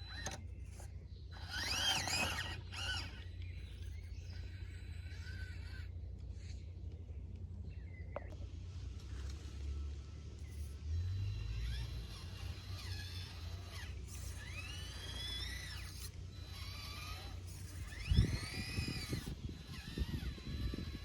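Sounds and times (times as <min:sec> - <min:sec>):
small electric motor whining: 0:00.0 - 0:06.9, 0:08.8 - 0:21.0.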